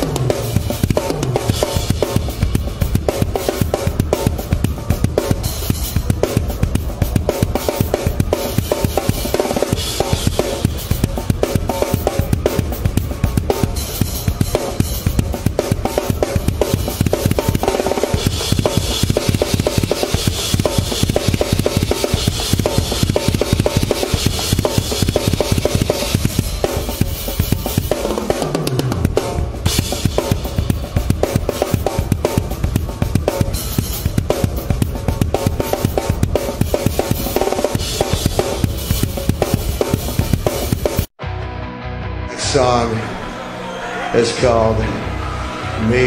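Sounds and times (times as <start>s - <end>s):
snare hits and cymbals: 0.0s - 41.1s
metal band music: 0.0s - 46.0s.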